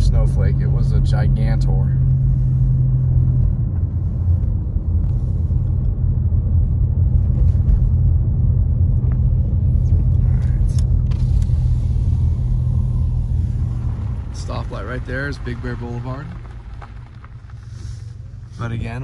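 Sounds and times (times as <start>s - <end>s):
car engine and road noise: 0.0s - 19.0s
constant low hum: 0.0s - 19.0s.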